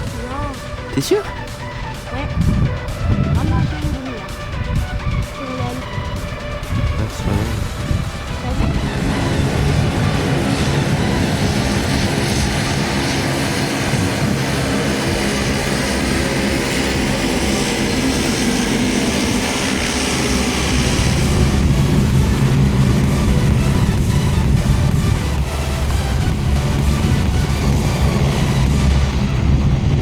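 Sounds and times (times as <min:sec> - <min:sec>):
aircraft engines droning: 0:00.0 - 0:30.0.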